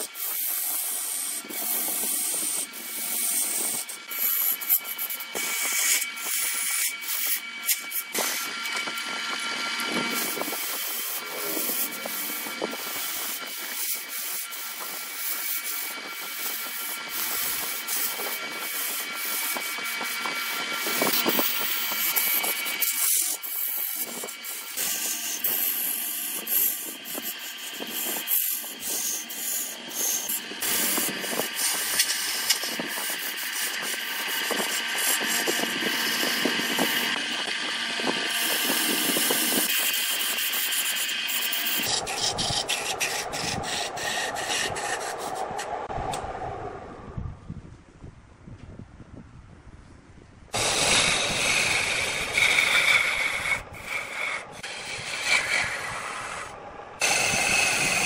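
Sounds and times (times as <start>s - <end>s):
gouge scraping wood on lathe: 0.0s - 45.7s, 50.6s - 58.0s
lathe motor whine: 0.0s - 47.1s, 50.5s - 58.0s.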